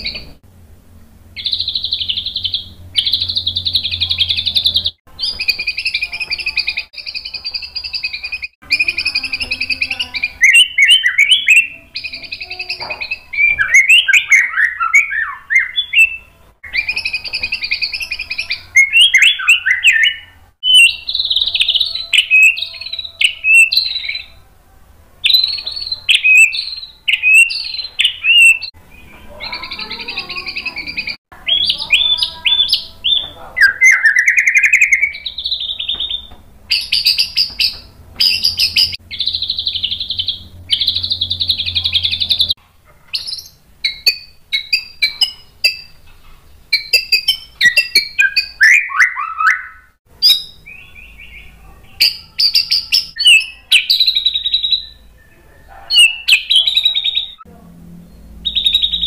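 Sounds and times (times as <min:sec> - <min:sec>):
bird singing whistled phrases: 0:01.4 - 0:24.4, 0:25.2 - 0:46.0, 0:46.7 - 0:57.4, 0:58.1 - 0:59.0.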